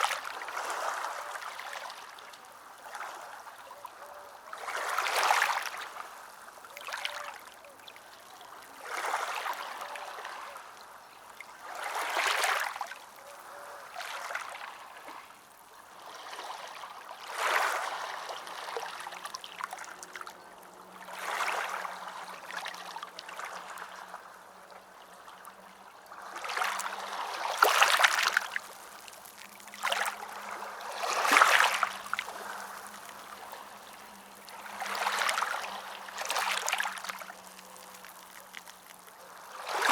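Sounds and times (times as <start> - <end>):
ocean waves on shore: 0.0 - 7.3, 11.5 - 39.9.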